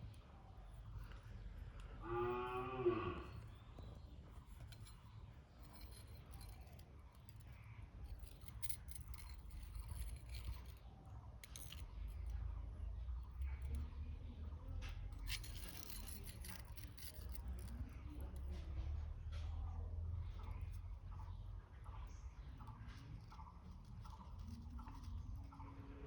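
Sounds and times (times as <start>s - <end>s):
light scraping: 0.0s - 26.0s.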